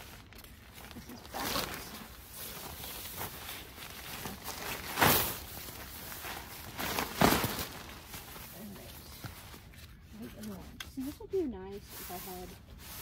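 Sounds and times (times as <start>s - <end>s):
tent fabric rustling: 0.0s - 13.0s.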